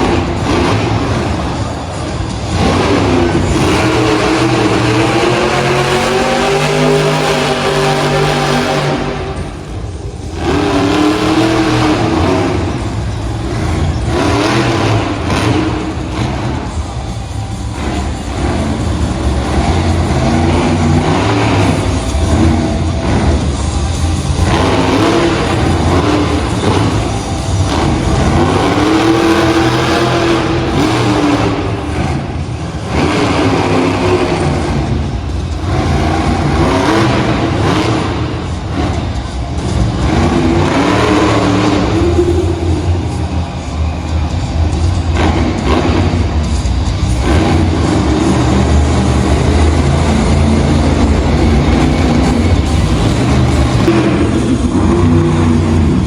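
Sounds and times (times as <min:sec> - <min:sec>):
monster truck engine revving: 0:00.0 - 0:56.0.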